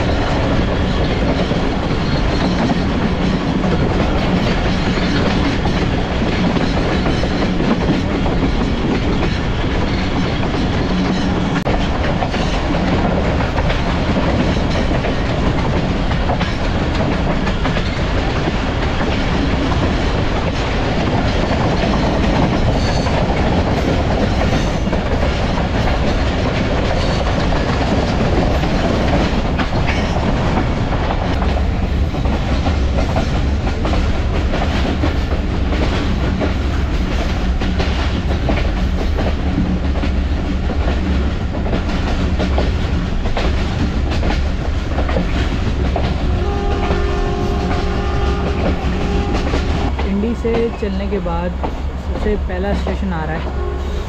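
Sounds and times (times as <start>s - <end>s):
wheels clicking over rail joints: 0.0s - 53.0s
train rumble and rush: 0.0s - 54.0s.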